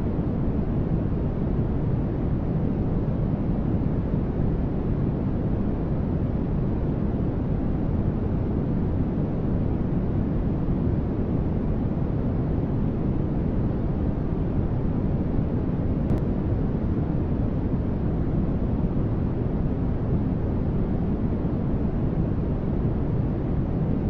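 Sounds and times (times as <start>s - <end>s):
static noise hiss: 0.0s - 24.0s.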